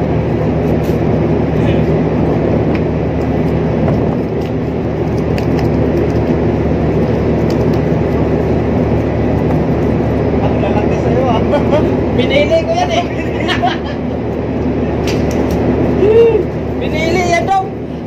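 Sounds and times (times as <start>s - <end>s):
ship machinery drone: 0.0s - 18.0s.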